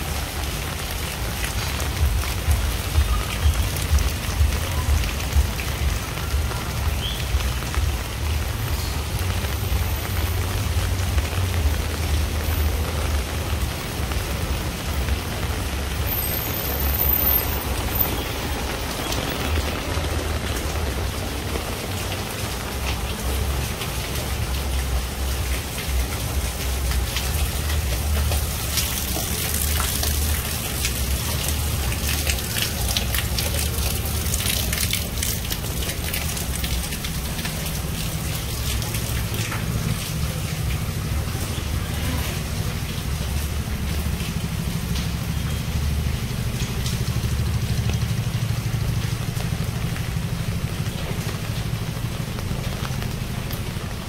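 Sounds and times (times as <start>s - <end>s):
rain falling: 0.0s - 54.0s
raindrops ticking: 0.0s - 54.0s.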